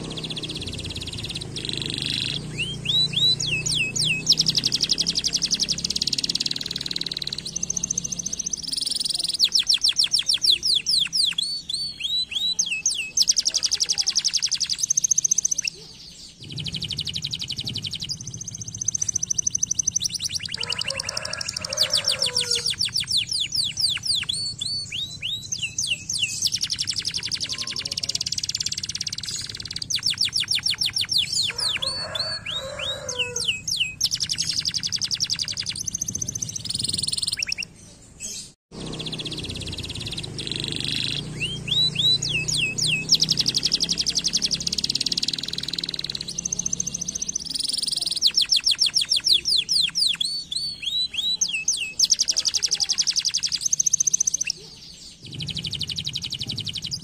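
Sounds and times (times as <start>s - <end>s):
canary singing trills and whistles: 0.0s - 57.0s.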